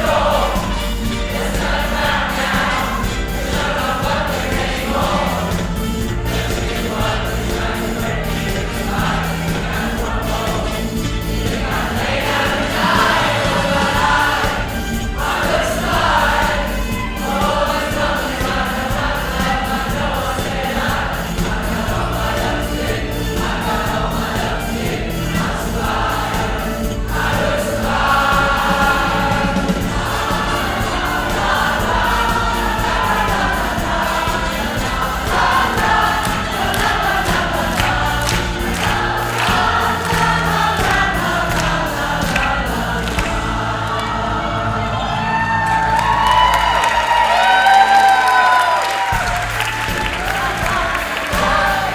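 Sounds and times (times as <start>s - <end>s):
accompaniment with bass and beat: 0.0s - 44.5s, 47.0s - 51.9s
choir singing a pop song: 0.0s - 51.9s.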